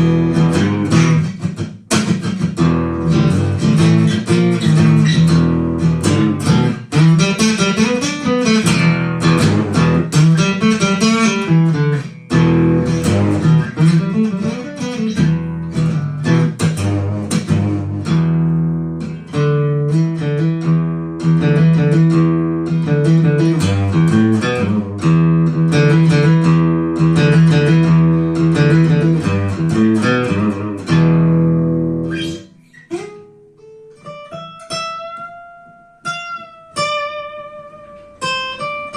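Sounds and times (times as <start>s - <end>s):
acoustic guitar strummed chords: 0.0s - 38.9s.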